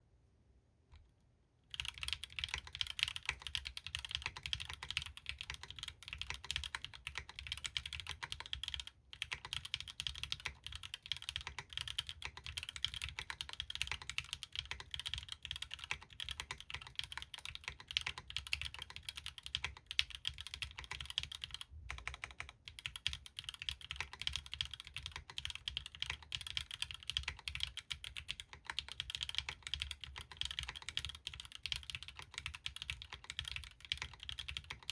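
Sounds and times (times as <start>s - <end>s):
fast mechanical keyboard typing: 1.7s - 34.9s.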